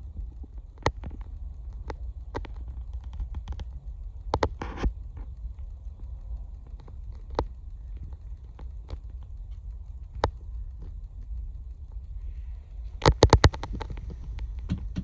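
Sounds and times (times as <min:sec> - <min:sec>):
low outdoor rumble: 0:00.0 - 0:15.0
sharp clicks: 0:00.1 - 0:15.0.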